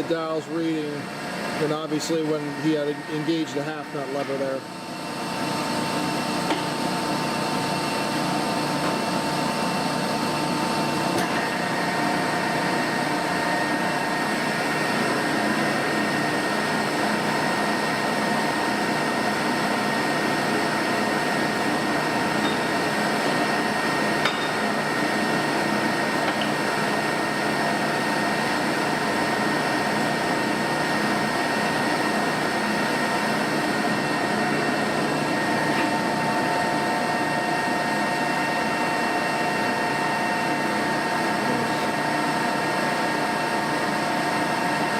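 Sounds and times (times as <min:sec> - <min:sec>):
lathe running with geared whine: 0:00.0 - 0:44.9.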